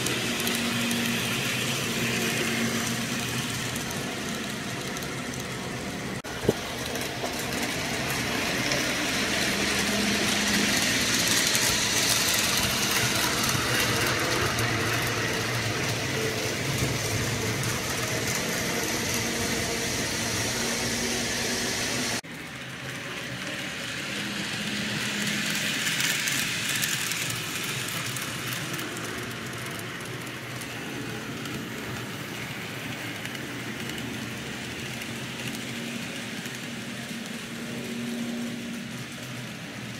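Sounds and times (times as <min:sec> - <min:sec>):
model train rolling rumble: 0:00.0 - 0:39.9.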